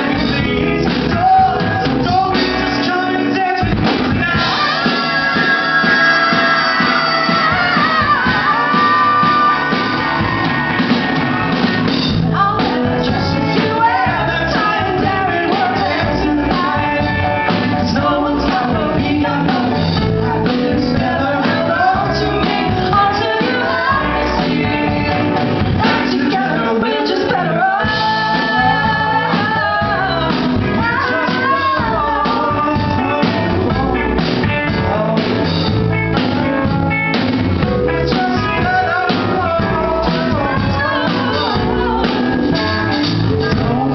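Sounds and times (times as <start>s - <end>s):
rock band playing: 0.0s - 43.9s
woman and man singing: 0.0s - 43.9s.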